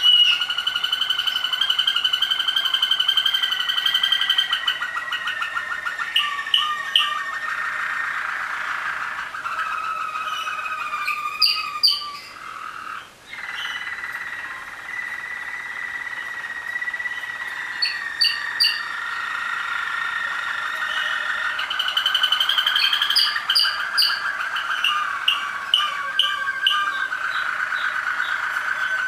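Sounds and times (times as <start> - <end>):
canaries singing trills: 0.0 - 29.0.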